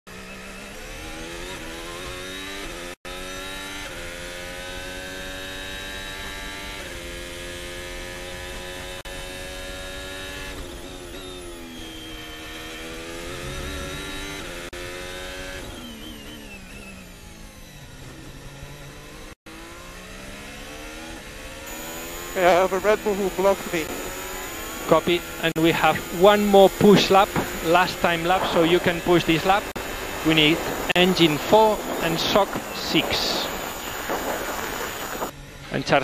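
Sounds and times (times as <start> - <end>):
racing car engine revving: 0.1 - 36.0.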